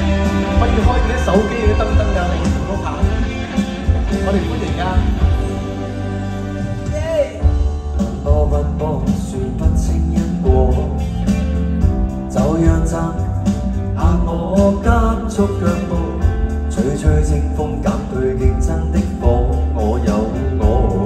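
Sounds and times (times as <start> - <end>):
live band playing pop song: 0.0 - 21.0
person singing: 0.0 - 21.0.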